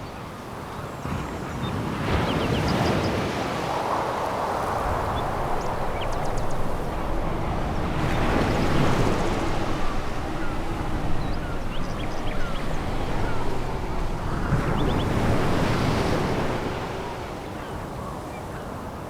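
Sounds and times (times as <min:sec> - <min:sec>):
surf on pebble beach: 0:00.7 - 0:18.8.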